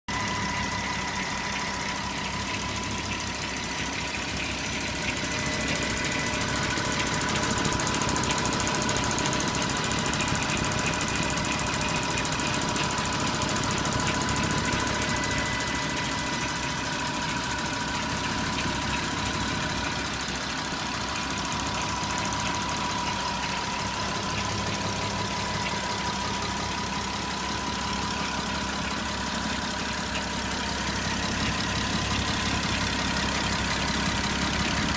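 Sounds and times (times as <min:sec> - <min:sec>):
car engine running: 0:00.1 - 0:34.9
fast ticking and knocking: 0:00.2 - 0:34.9.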